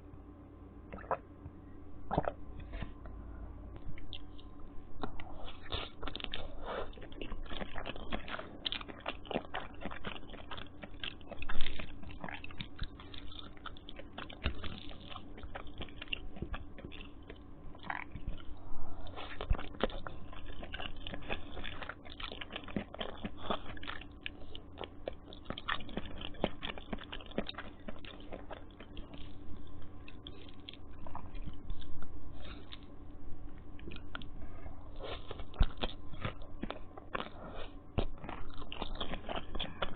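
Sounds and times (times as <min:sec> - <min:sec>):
chewing noodles: 0:03.8 - 0:39.9.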